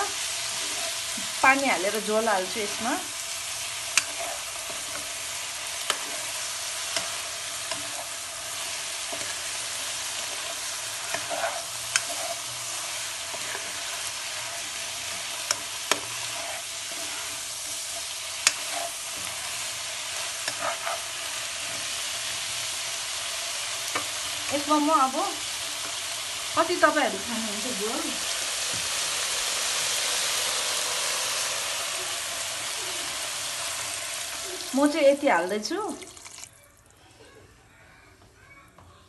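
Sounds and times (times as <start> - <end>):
food sizzling in a pan: 0.0 - 36.6.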